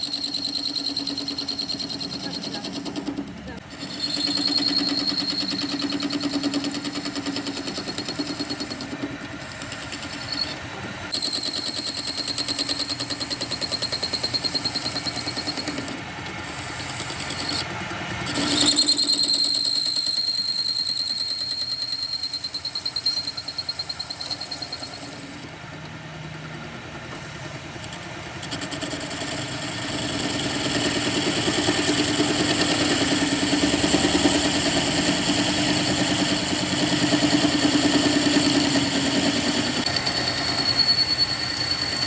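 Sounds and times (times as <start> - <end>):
high-pitched machine squeal: 0.0 - 25.6, 27.9 - 42.0
metalworking machine pulsing: 0.0 - 26.3, 27.6 - 42.0.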